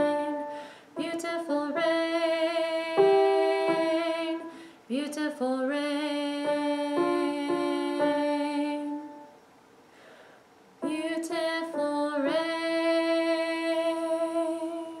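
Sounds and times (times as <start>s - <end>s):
woman singing long notes: 0.0s - 9.3s, 10.8s - 15.0s.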